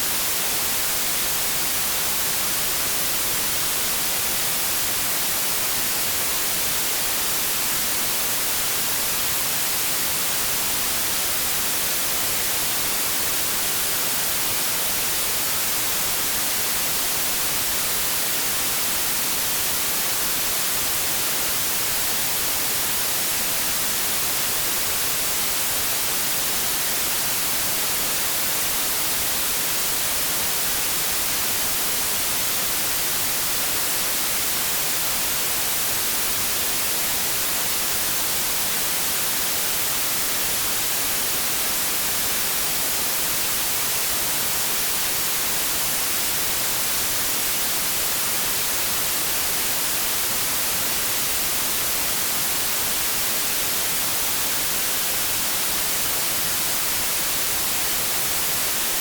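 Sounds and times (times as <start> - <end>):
white noise static hiss: 0.0 - 59.0.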